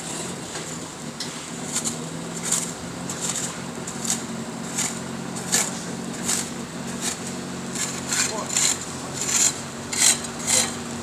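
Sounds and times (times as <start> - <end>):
hand tool scraping asphalt: 0.0 - 11.0.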